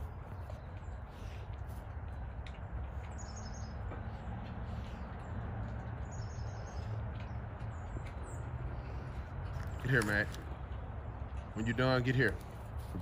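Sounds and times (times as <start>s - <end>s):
steady outdoor rumble: 0.0s - 13.0s.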